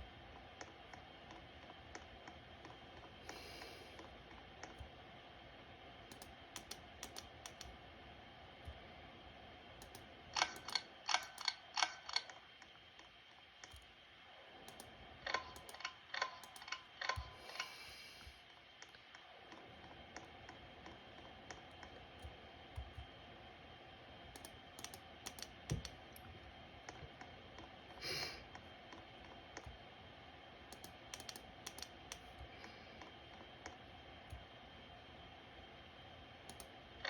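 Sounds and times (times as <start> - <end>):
ceiling fan running: 0.0 - 37.0.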